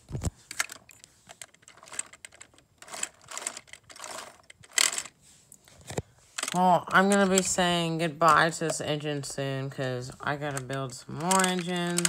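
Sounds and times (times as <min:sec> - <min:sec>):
plastic clicks and rattles: 0:00.0 - 0:05.1, 0:05.8 - 0:08.9, 0:10.2 - 0:12.0.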